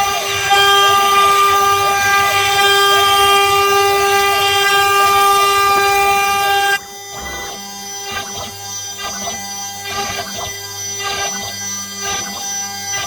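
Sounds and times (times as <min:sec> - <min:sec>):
spindle motor whine: 0:00.0 - 0:13.0.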